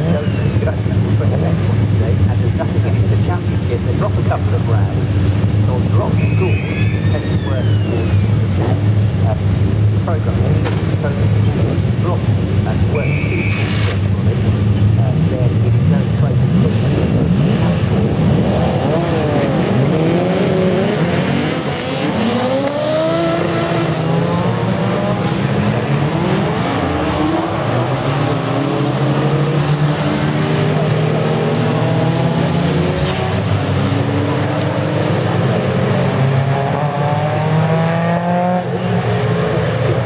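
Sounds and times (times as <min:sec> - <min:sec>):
race car engines revving: 0:00.0 - 0:40.0.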